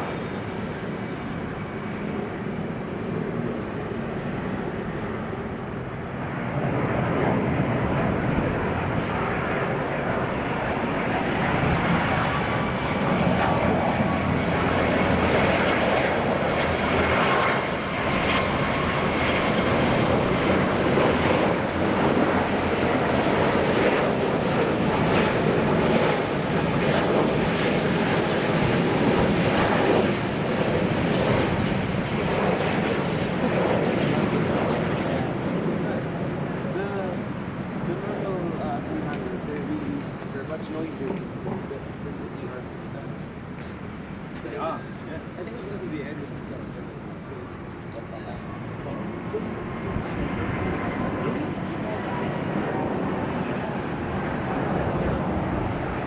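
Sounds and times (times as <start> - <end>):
jet engine rush: 0.0 - 56.0.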